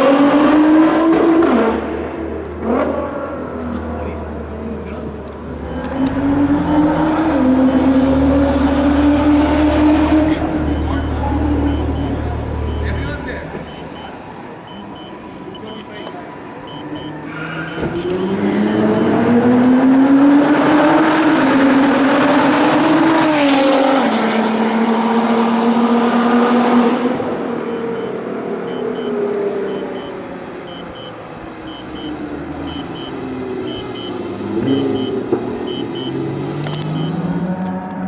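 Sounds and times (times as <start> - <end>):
car engine accelerating hard: 0.0 - 14.1, 15.4 - 38.0.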